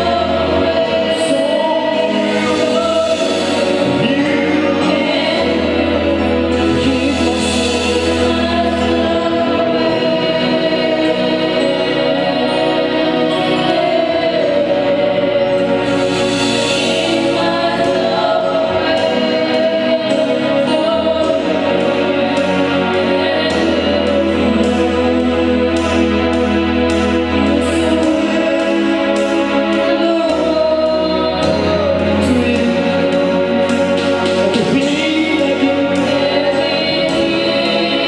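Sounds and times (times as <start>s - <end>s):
gospel choir singing: 0.0s - 38.0s
instrumental accompaniment: 0.0s - 38.0s.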